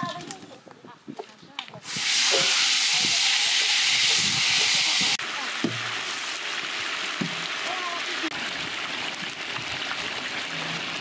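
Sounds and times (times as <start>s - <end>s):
eggplant sizzling in hot oil: 1.8s - 11.0s.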